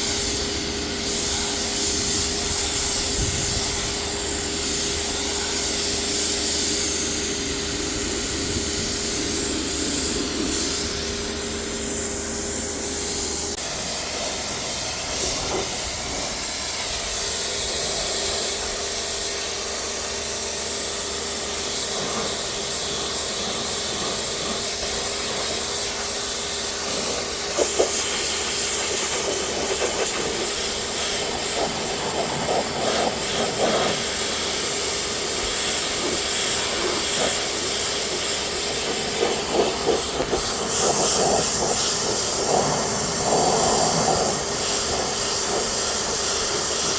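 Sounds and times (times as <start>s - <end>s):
pressure washer spray hissing: 0.0s - 46.9s
pump humming: 0.0s - 46.9s.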